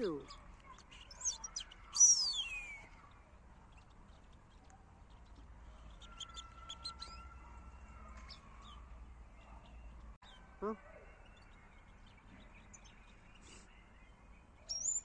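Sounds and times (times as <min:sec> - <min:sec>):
faint high chirps: 0:00.0 - 0:15.0.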